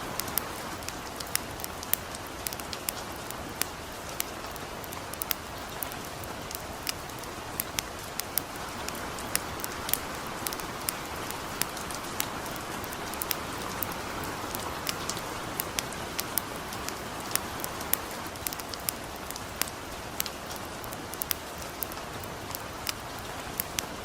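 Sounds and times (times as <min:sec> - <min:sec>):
campfire crackling: 0:00.0 - 0:24.0
light rain hissing: 0:00.0 - 0:24.0.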